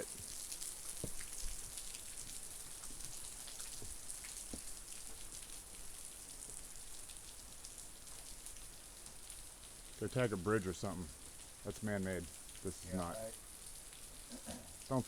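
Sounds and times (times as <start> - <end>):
light rain hissing: 0.0 - 15.0
raindrops ticking: 0.0 - 15.0.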